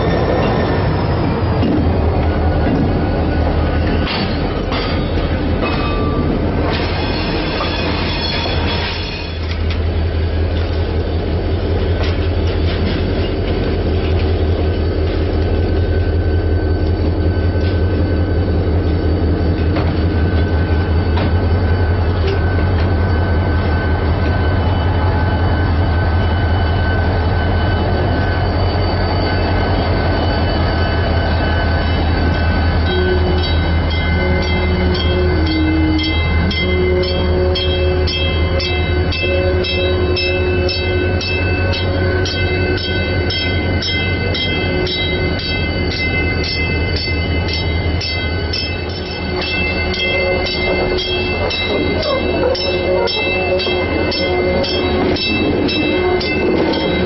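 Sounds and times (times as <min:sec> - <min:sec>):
steady locomotive tones: 0:00.0 - 0:57.0
train rolling past: 0:00.0 - 0:57.0.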